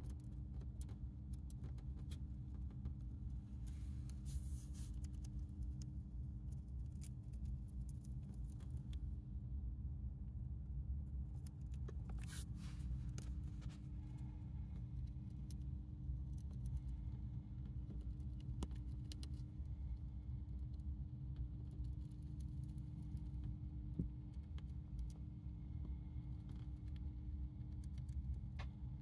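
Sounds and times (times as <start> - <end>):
hamster chewing lettuce: 0.0 - 9.3, 11.0 - 29.0
steady low hum: 0.0 - 29.0.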